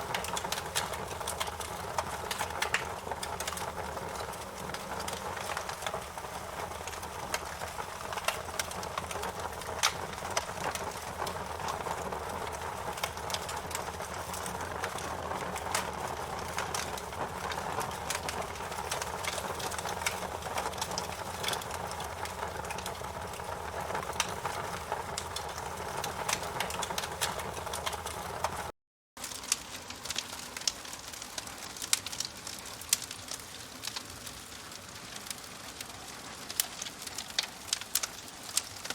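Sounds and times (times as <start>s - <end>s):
campfire crackling and hissing: 0.0s - 38.9s.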